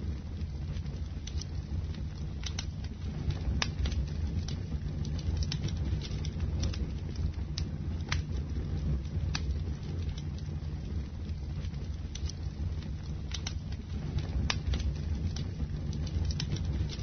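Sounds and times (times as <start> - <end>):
bonfire flames rumbling: 0.0 - 17.0
burning wood crackling and popping: 0.0 - 17.0.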